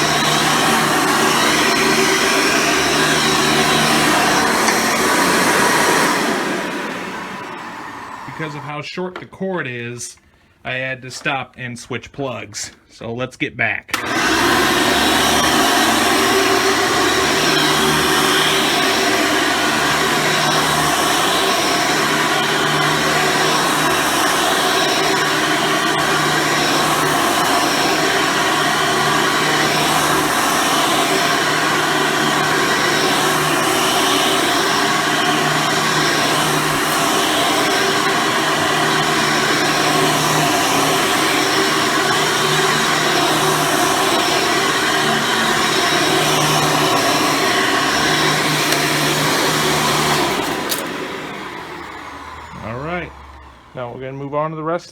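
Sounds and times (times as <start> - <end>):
vacuum cleaner running: 0.0 - 8.8, 13.9 - 54.6.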